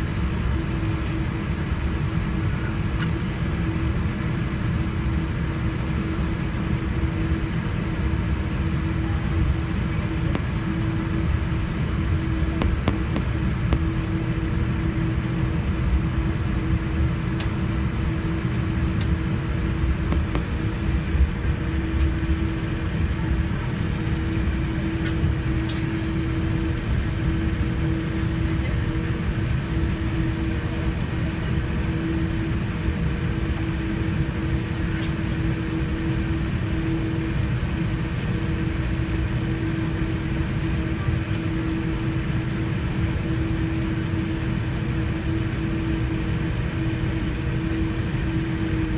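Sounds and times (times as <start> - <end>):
airliner cabin engine rumble: 0.0 - 48.9
constant hum: 0.0 - 48.9.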